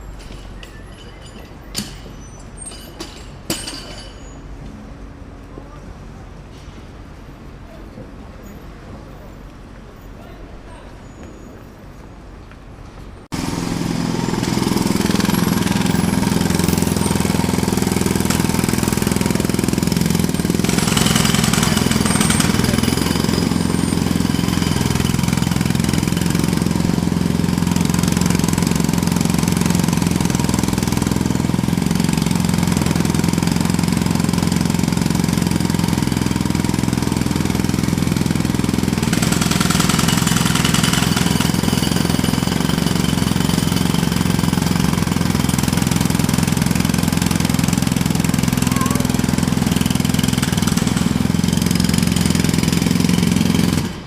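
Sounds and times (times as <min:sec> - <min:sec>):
jackhammer hammering: 0:00.2 - 0:04.3, 0:13.3 - 0:54.0.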